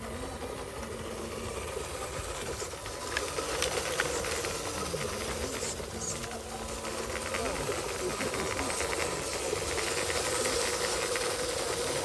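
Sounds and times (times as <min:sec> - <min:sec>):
toy truck motor whirring: 0:00.0 - 0:12.0.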